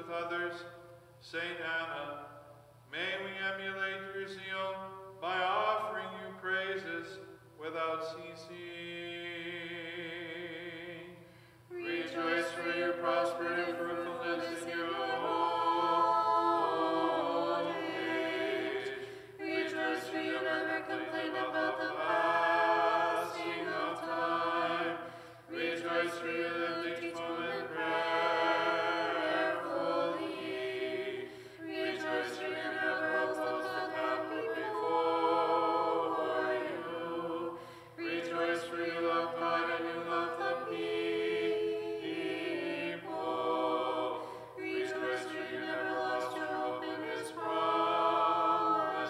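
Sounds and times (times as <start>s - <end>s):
choir chanting a cappella: 0.0s - 49.0s.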